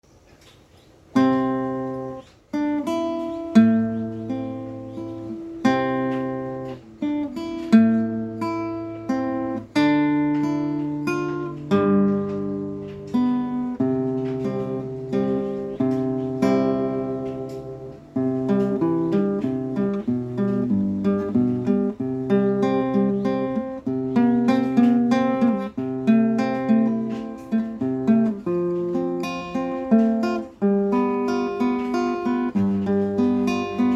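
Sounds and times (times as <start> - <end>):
acoustic guitar playing: 1.1 - 33.9.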